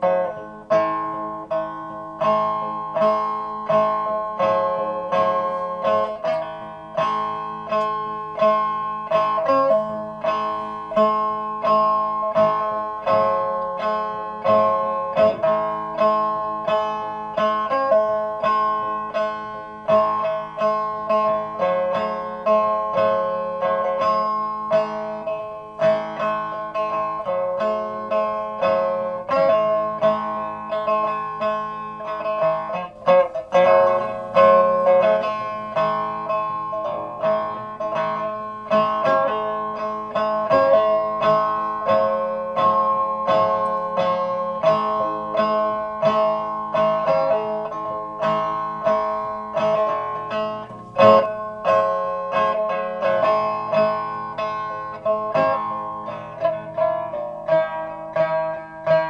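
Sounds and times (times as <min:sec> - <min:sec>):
plucked string instrument melody: 0:00.0 - 0:59.0.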